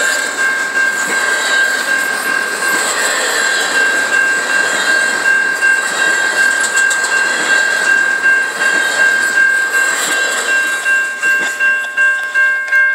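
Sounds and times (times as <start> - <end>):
freight train cars clattering on rails: 0.0 - 12.8
railroad crossing bell ringing: 0.0 - 12.9.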